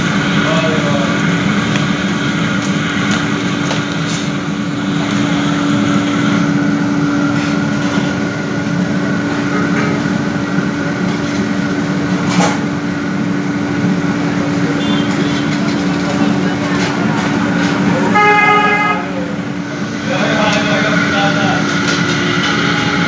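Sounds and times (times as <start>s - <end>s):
loud machine hum: 0.0s - 23.0s.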